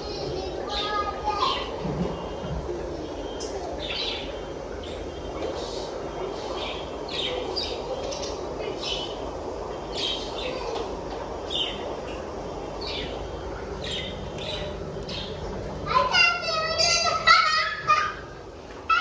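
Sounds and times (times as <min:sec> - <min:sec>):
small birds chirping: 0:00.0 - 0:19.0
steady low background noise: 0:00.0 - 0:19.0.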